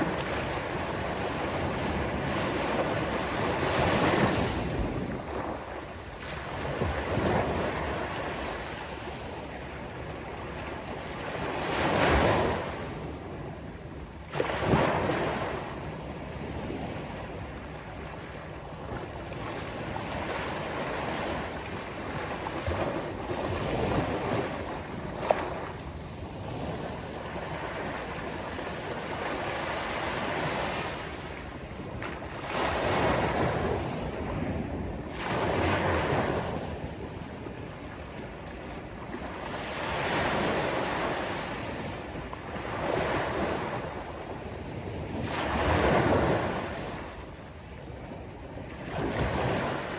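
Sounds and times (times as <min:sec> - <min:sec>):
sea waves breaking on beach: 0:00.0 - 0:13.6, 0:14.2 - 0:49.9
wind buffeting microphone: 0:00.0 - 0:47.1.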